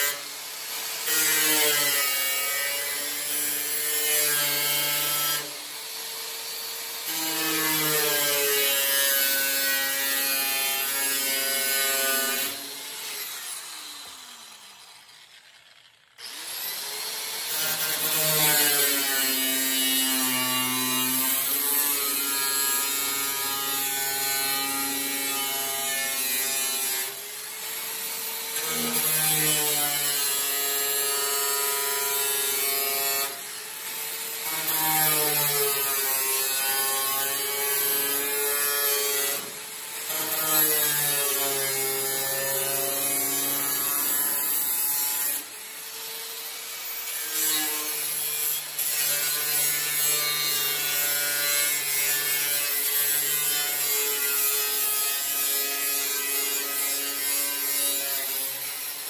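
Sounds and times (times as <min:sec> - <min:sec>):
angle grinder cutting sheet metal: 0:00.0 - 0:59.0.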